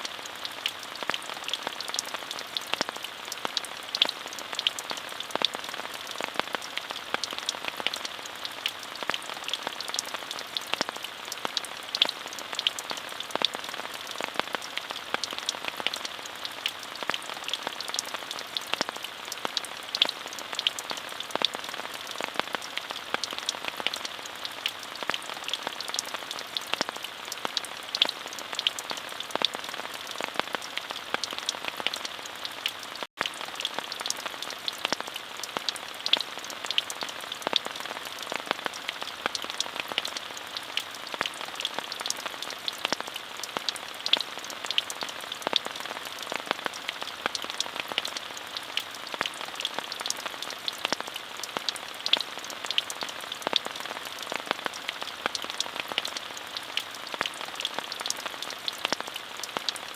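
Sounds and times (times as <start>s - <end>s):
rain drops tapping: 0.0s - 59.9s
steady rain hiss: 0.0s - 59.9s.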